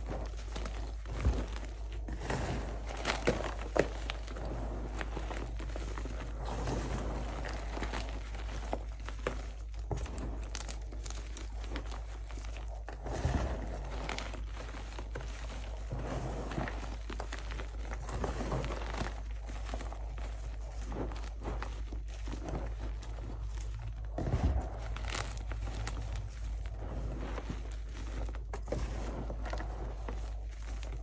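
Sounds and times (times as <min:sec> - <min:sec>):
soft powdery rustle: 0:00.0 - 0:31.0.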